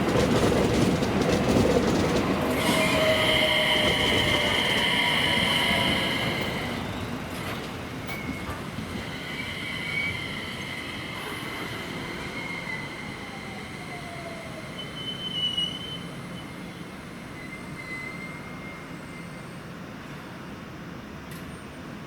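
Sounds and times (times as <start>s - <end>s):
train wheel squeal: 0.0s - 19.8s
train rumbling on rails: 0.0s - 22.0s.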